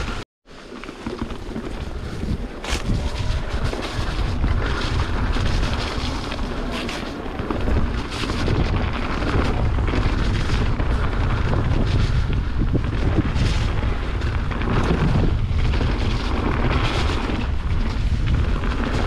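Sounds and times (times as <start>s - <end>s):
bike knocks and rattles: 0.0s - 19.0s
wind buffeting microphone: 1.0s - 19.0s.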